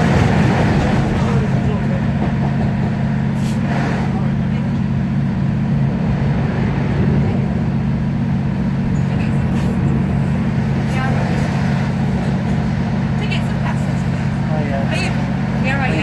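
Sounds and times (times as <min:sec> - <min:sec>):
diesel engine drone: 0:00.0 - 0:16.0
train wheel and rail noise: 0:00.0 - 0:16.0.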